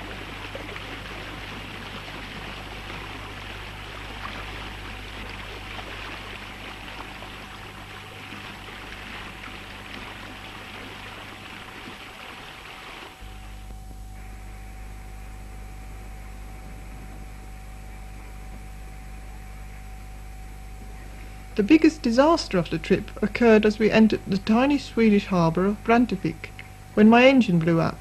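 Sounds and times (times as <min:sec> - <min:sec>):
low hum: 0:00.0 - 0:28.0
thin steady whine: 0:00.0 - 0:28.0
water rushing along hulls: 0:00.0 - 0:28.0.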